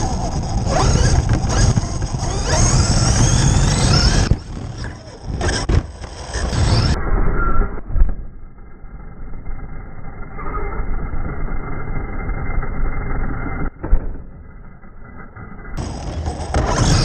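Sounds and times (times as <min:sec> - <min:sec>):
electric rc buggy running: 0:00.0 - 0:07.7, 0:08.4 - 0:13.7, 0:14.7 - 0:17.0.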